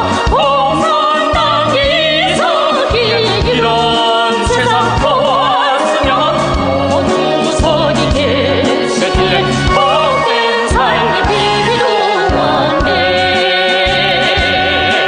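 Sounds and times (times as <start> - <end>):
person singing with vibrato: 0.0 - 15.0
steady drum beat: 0.0 - 15.0.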